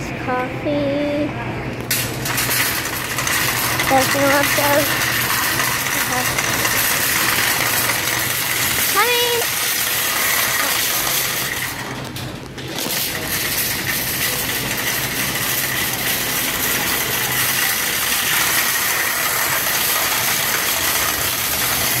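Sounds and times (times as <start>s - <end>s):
shopping cart rattling: 1.8s - 22.0s.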